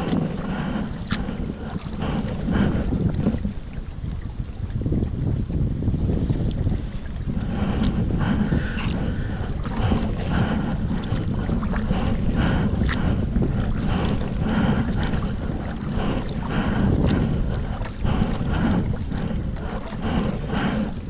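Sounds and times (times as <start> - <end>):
paddle splashing in water: 0.0 - 21.0
wind buffeting microphone: 0.0 - 21.0.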